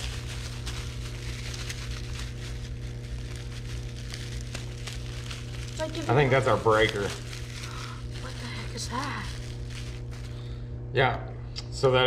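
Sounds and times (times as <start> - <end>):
bubble wrap crinkling: 0.0 - 10.6
low electrical hum: 0.0 - 12.0.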